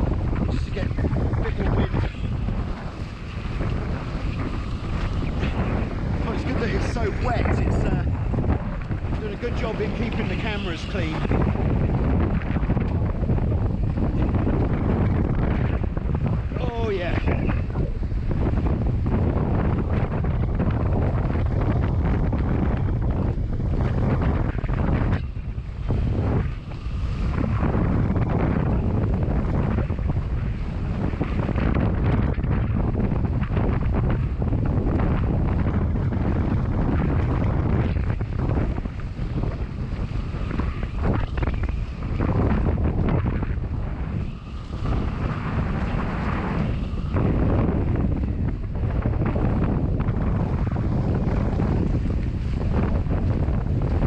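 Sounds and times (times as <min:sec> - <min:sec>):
water rushing past hulls: 0:00.0 - 0:54.0
wind buffeting microphone: 0:00.0 - 0:54.0.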